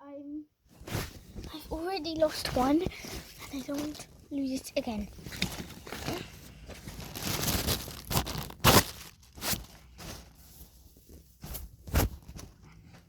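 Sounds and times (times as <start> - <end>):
rustling and scraping: 0.7 - 13.0.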